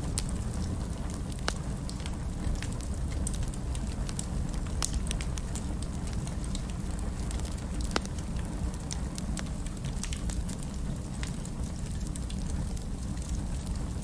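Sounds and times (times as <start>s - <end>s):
fire crackling in fireplace: 0.0s - 14.0s.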